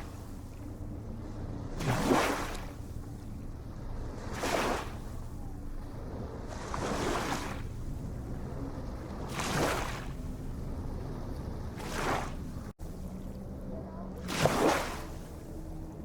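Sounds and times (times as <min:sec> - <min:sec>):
low rumble of surf: 0:00.0 - 0:16.0
small waves splashing: 0:00.0 - 0:16.0.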